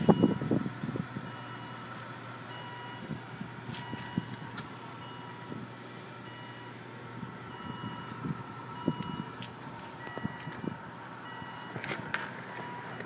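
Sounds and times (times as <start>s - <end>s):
car warning chime beeping: 0.0s - 0.6s, 1.2s - 13.0s.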